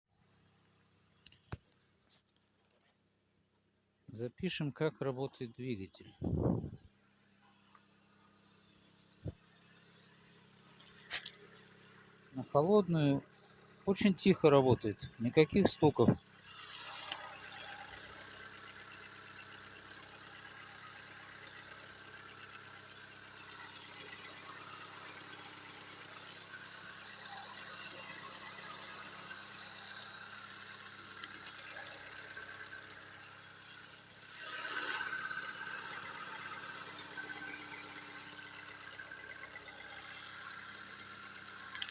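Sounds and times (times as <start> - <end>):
car engine idling: 5.9 - 41.9.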